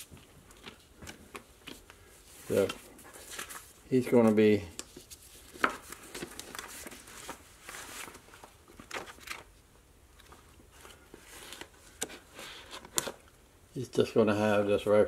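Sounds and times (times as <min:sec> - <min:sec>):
paper rustling: 0:00.6 - 0:09.6, 0:10.2 - 0:13.2.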